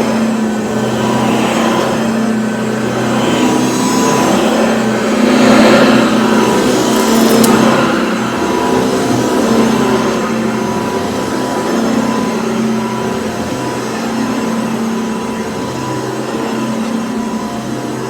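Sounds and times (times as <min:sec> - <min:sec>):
stick vacuum cleaner running: 0:00.0 - 0:18.0.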